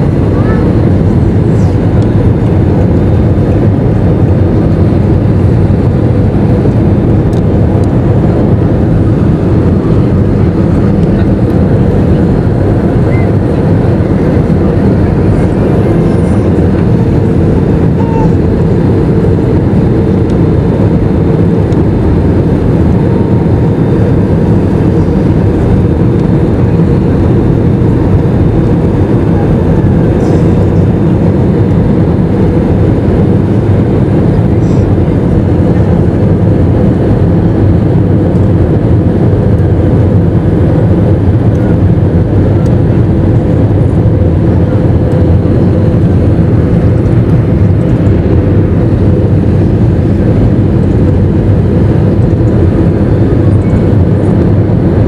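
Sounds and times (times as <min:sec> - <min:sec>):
jet engine and airflow rumble: 0:00.0 - 0:55.0.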